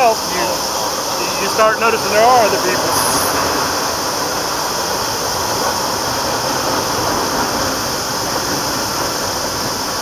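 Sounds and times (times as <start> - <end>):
freight train rolling past: 0.1 - 10.0.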